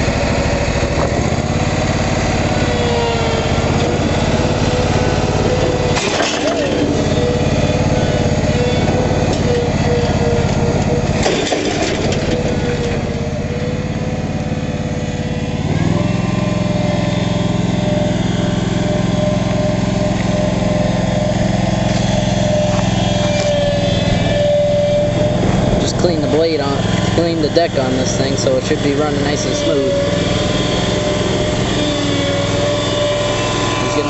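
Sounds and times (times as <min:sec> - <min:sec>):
lawn mower running: 0:00.0 - 0:34.0.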